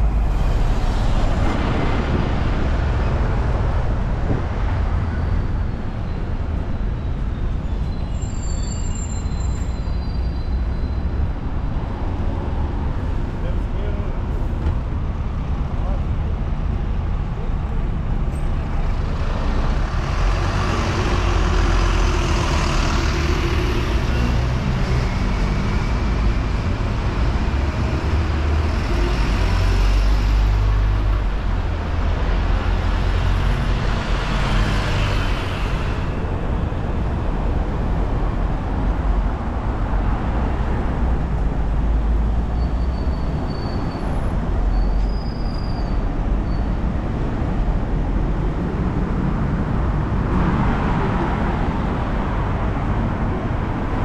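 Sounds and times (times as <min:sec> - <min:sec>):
vehicles passing close by: 0:00.0 - 0:07.9, 0:09.6 - 0:54.0
steady low traffic rumble: 0:00.0 - 0:54.0.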